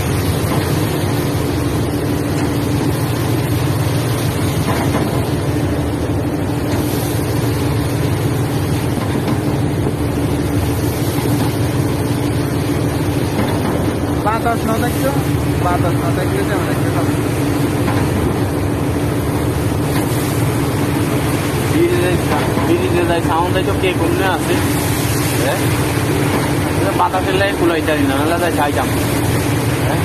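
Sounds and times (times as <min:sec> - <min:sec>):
seawater washing across deck: 0:00.0 - 0:30.0
ship engine droning: 0:00.0 - 0:30.0.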